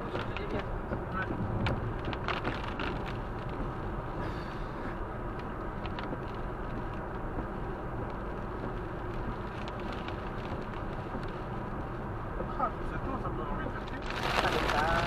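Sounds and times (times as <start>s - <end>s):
car driving at speed rumble: 0.0s - 15.0s.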